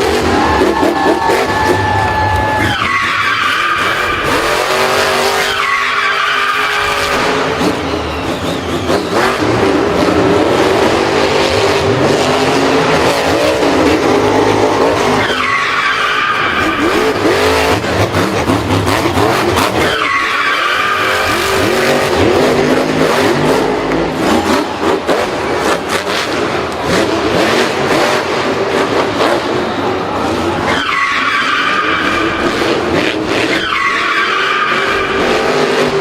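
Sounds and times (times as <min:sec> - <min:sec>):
racing car engine revving: 0:00.0 - 0:36.0
tyres squealing and skidding: 0:00.0 - 0:36.0.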